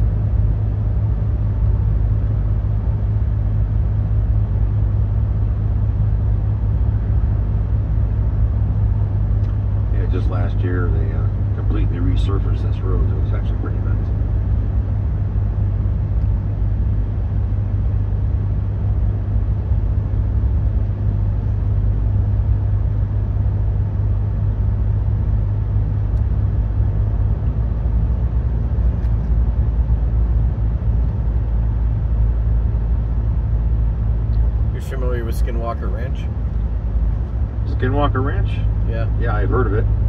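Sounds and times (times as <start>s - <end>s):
road and engine rumble in cabin: 0.0s - 40.0s.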